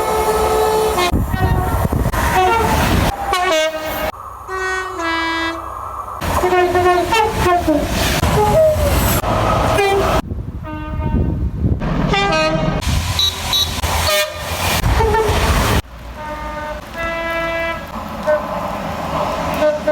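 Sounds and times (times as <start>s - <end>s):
two-tone train horns: 0.0s - 5.6s, 6.2s - 9.1s, 9.7s - 11.4s, 12.0s - 18.6s, 19.5s - 19.9s.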